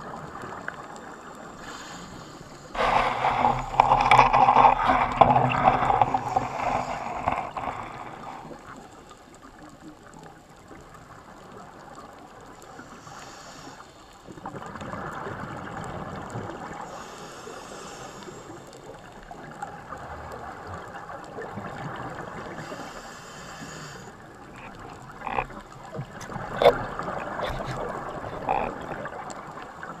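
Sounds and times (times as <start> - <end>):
muffled underwater hiss: 0.0 - 30.0.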